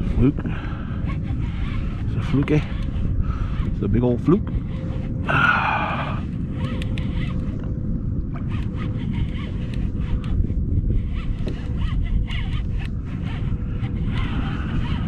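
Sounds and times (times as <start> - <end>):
wind and water rumble: 0.0 - 15.0
fishing reel clicking: 0.9 - 15.0.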